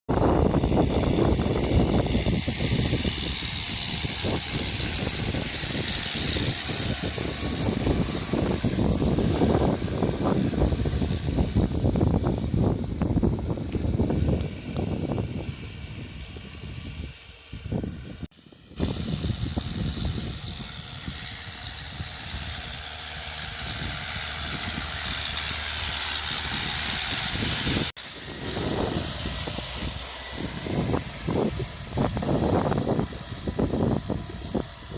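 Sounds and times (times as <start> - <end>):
wind buffeting microphone: 0.1 - 34.9
tractor diesel engine running: 0.2 - 34.9.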